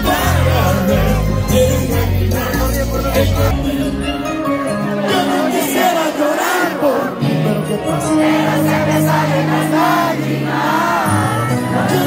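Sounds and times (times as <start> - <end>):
accordion-led band playing: 0.0 - 12.0
crowd voices: 0.0 - 12.0.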